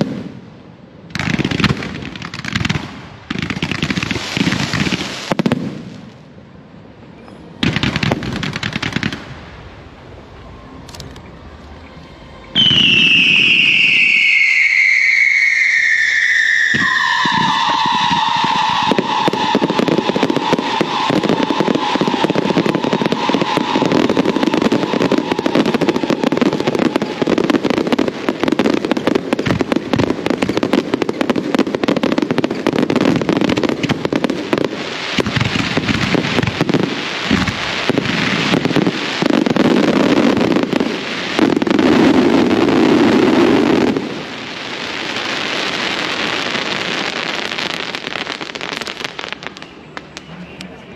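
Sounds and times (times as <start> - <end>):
fireworks crackling and popping: 0.0 - 10.2, 12.6 - 50.9
whistling firework: 1.0 - 6.1, 12.5 - 50.9.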